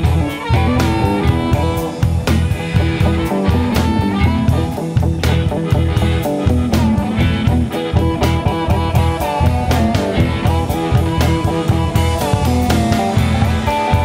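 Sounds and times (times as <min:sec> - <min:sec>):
bass: 0:00.0 - 0:14.0
drum kit beat: 0:00.0 - 0:14.0
guitar playing: 0:00.0 - 0:14.0.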